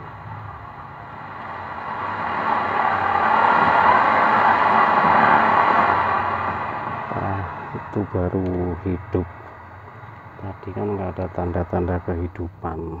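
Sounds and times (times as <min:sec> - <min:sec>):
car speaker static hiss: 0:00.0 - 0:13.0.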